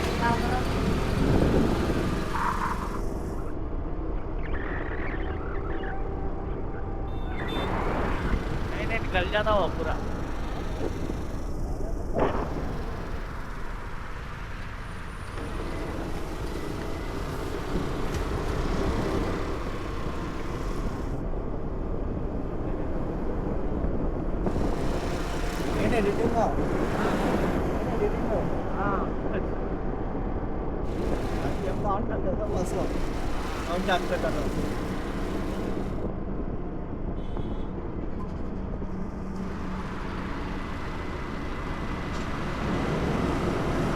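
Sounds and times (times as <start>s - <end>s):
vehicle and road noise: 0.0s - 43.9s.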